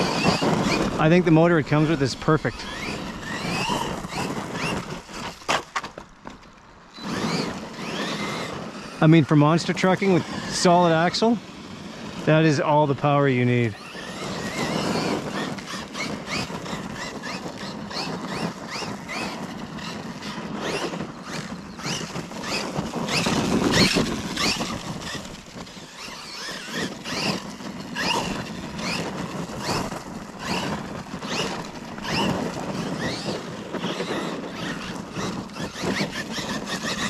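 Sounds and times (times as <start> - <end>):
electric motor whining: 0.0 - 37.0
tyres crunching on gravel: 0.0 - 37.0.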